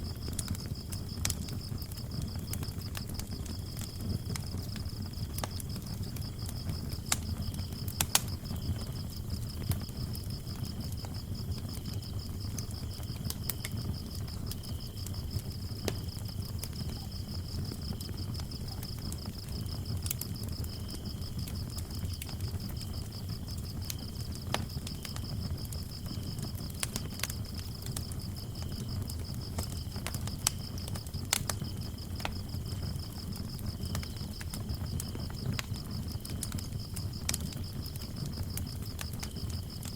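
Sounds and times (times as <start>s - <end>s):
crickets chirping trill: 0.0s - 39.9s
lower cricket chirping: 0.0s - 39.9s
wood fire crackling: 0.0s - 39.9s.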